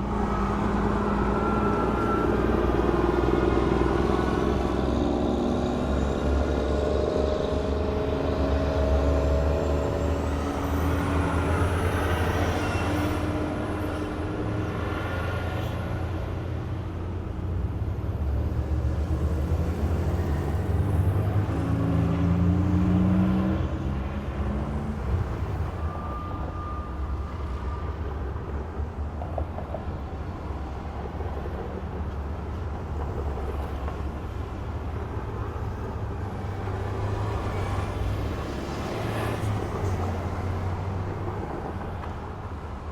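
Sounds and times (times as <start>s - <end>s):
traffic engines rumbling: 0.0s - 42.9s.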